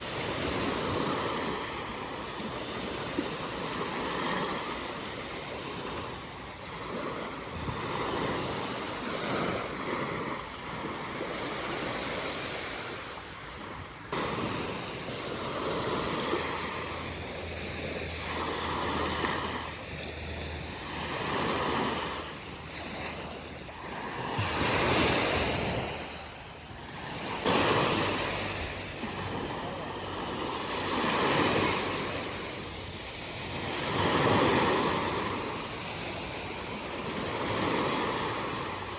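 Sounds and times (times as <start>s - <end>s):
ocean waves washing on beach: 0.0s - 38.9s.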